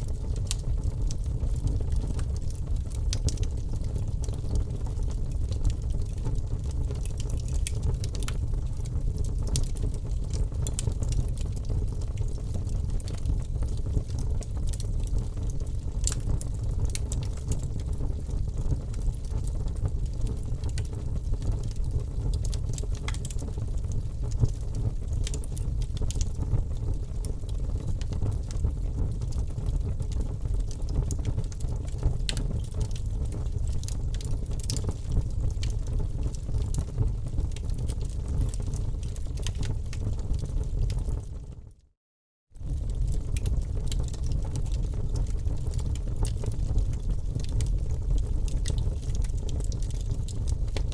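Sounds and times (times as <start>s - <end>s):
wood fire crackling: 0.0s - 41.5s, 42.6s - 50.9s.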